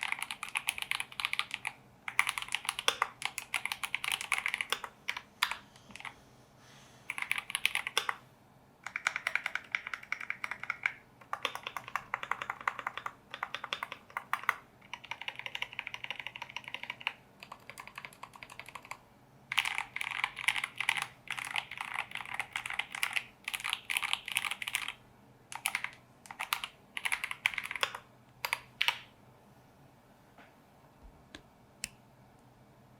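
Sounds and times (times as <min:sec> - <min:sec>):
mechanical keyboard typing: 0:00.0 - 0:06.1, 0:07.1 - 0:08.2, 0:08.8 - 0:29.1.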